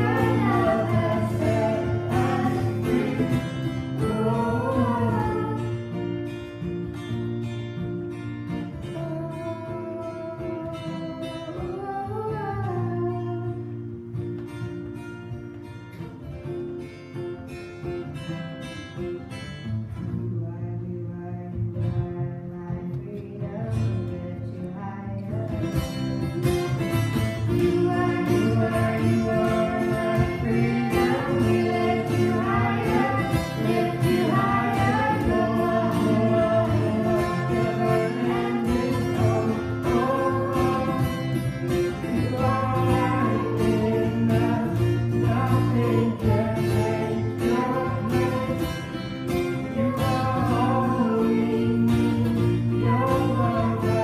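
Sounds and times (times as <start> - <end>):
woman singing: 0.0 - 6.1, 8.7 - 13.9, 20.1 - 26.8, 27.4 - 54.0
acoustic guitar: 0.0 - 54.0.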